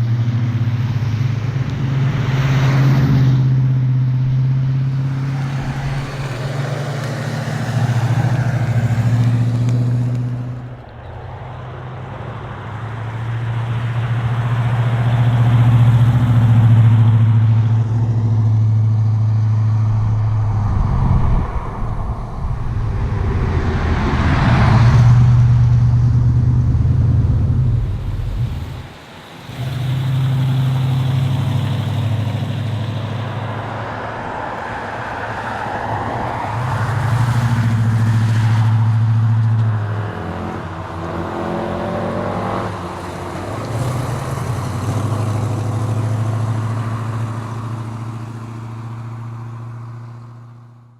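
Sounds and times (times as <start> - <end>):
car engine running hard: 0.0 - 50.9.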